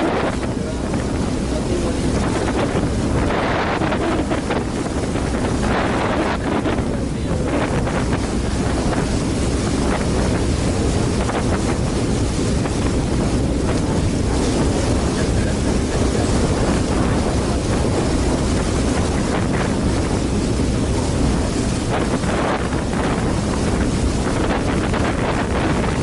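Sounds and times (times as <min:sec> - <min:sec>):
ferry engine humming: 0:00.0 - 0:26.0
water rushing past hull: 0:00.0 - 0:26.0
wind buffeting microphone: 0:00.0 - 0:26.0.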